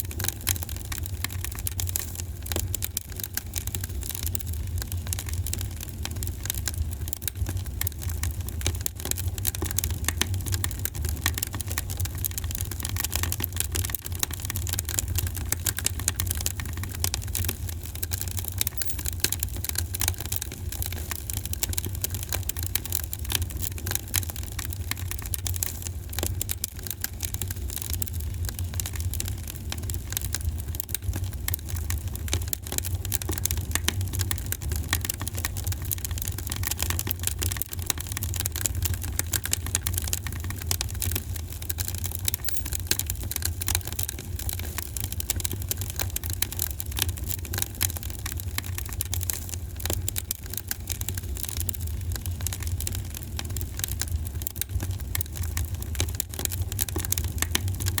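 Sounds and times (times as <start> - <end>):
wood fire crackling: 0.1 - 58.0.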